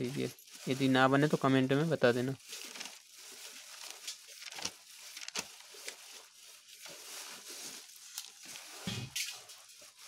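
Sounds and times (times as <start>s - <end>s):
faint rustling: 0.0s - 10.0s.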